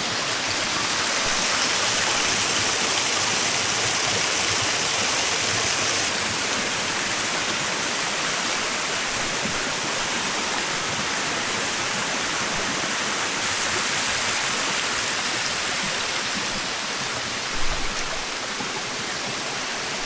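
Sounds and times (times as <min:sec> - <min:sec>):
waterfall cascading over rocks: 0:00.0 - 0:20.0.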